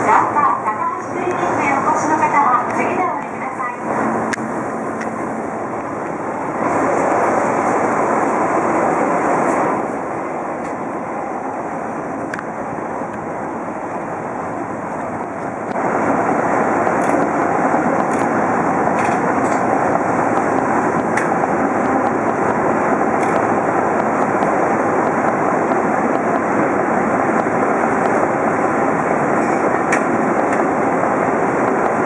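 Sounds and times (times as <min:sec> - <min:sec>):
subway train running: 0:00.0 - 0:32.0.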